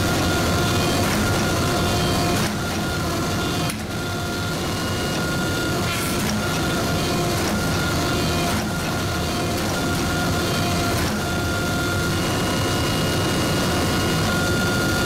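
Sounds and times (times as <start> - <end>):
hydraulic press hum: 0.0 - 15.0.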